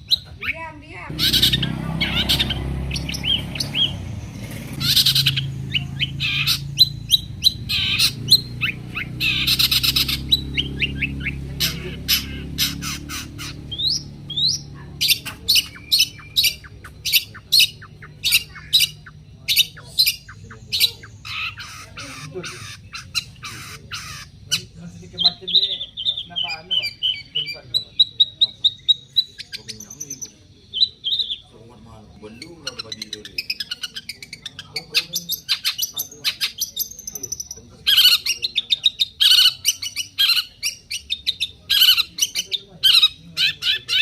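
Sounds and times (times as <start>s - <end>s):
bird squawking and chattering: 0.0s - 44.0s.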